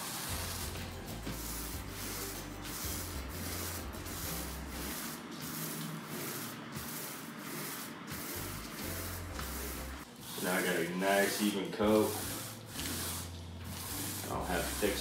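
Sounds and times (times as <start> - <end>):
paint roller rolling sticky primer: 0.0 - 15.0.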